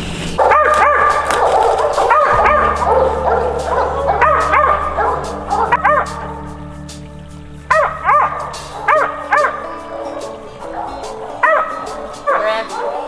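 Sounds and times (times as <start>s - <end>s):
background music with low tones: 0.0s - 13.0s
dog barking: 0.4s - 6.4s, 7.7s - 13.0s.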